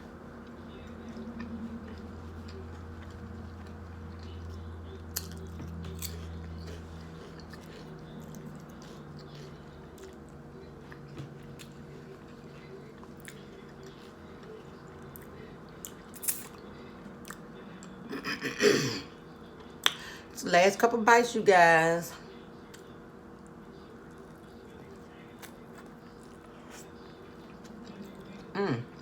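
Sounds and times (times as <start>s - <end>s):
person chewing sandwich: 0.0s - 18.6s, 22.6s - 29.0s
low steady hum: 0.0s - 29.0s.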